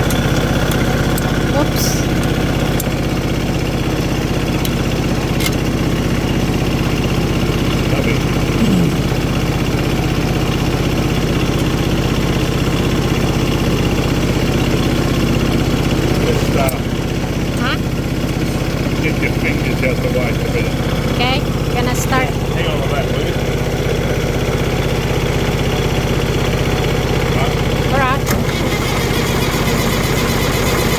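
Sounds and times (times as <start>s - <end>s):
engine idling: 0.0s - 30.9s.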